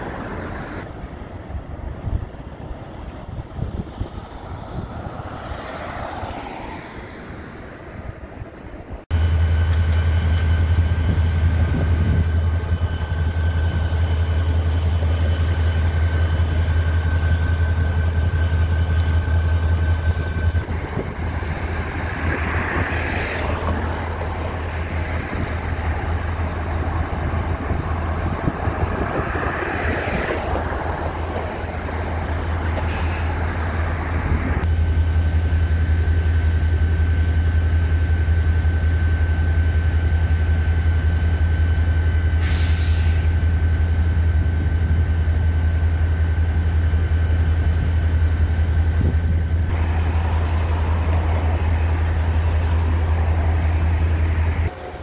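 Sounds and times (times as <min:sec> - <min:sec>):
traffic: 0:00.0 - 0:41.0, 0:41.8 - 0:55.0
locomotive engine hum: 0:00.0 - 0:55.0
wheel and rail noise: 0:00.0 - 0:55.0
wind: 0:00.0 - 0:55.0
thin steady whine: 0:09.1 - 0:55.0.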